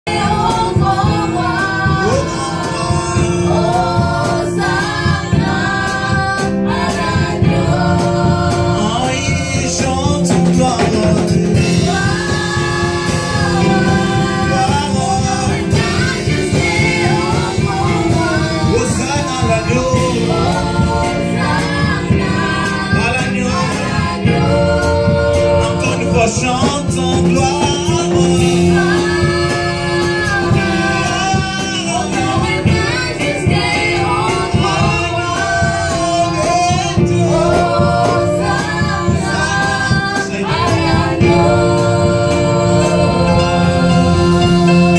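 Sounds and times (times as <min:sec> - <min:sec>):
band accompaniment with beat: 0:00.0 - 0:44.9
choir singing gospel music: 0:00.0 - 0:44.9.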